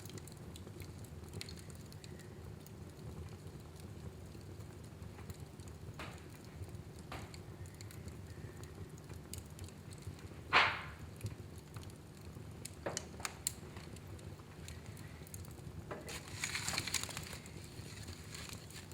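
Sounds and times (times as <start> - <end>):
fire crackling and snapping: 0.0 - 18.9
fire rumbling in fireplace: 0.0 - 18.9.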